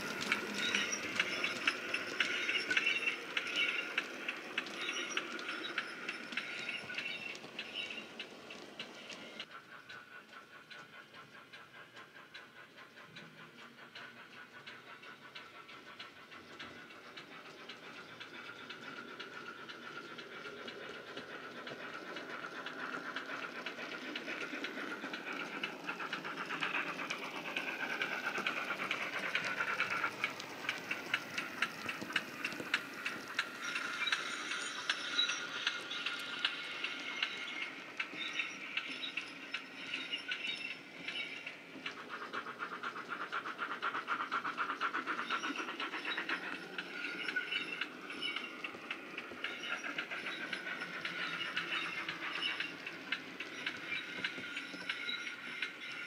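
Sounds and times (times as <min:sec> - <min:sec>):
model train wheels clicking: 0:00.0 - 0:56.0.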